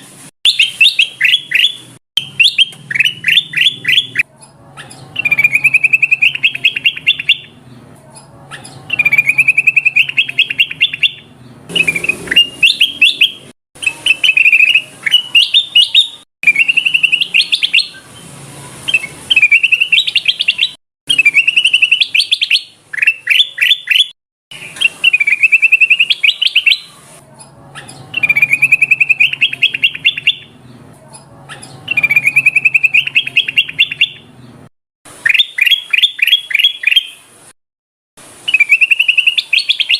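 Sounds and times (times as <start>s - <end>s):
bird song rapid high chirping: 0.5s - 7.8s, 8.5s - 18.3s, 18.9s - 27.0s, 27.8s - 30.8s, 31.5s - 37.3s, 38.5s - 39.9s.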